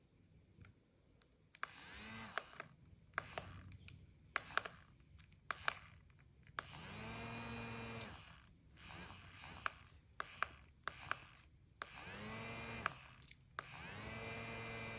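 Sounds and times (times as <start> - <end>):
electric fan motor whirring: 1.6 - 3.8, 4.4 - 6.0, 6.6 - 14.9.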